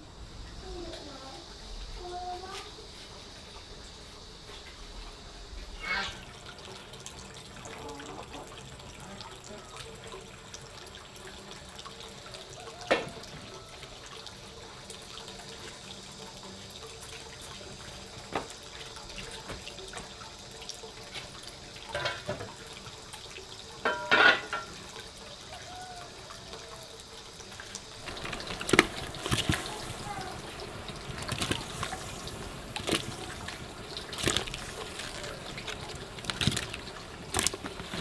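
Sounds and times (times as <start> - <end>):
water running and splashing: 0.0 - 38.0.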